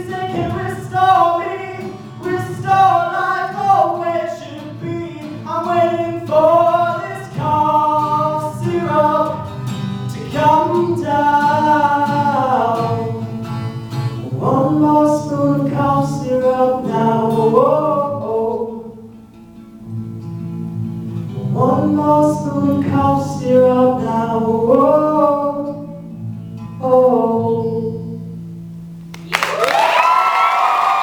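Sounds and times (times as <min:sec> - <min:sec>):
wordless singing: 0:00.0 - 0:19.1, 0:21.4 - 0:26.0, 0:26.8 - 0:28.2
guitar chords: 0:00.0 - 0:29.6.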